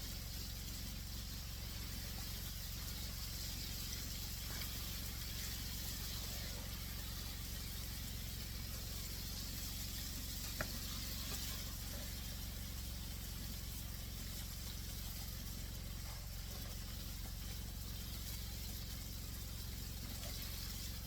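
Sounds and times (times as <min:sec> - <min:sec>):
low hum: 0:00.0 - 0:21.0
meat sizzling in hot oil: 0:00.0 - 0:21.0.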